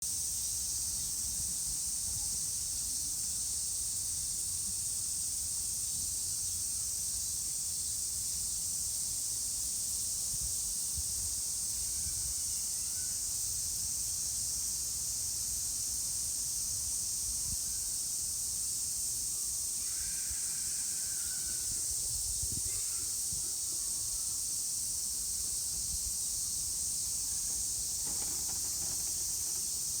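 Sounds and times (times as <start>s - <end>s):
cicadas singing: 0.1s - 30.0s.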